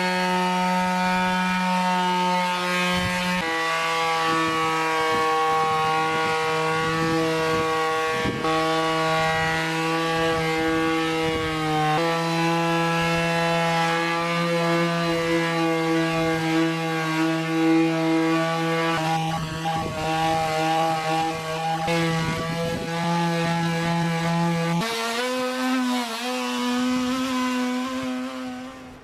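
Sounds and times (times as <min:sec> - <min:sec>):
power tool motor on wood: 0:00.0 - 0:29.0.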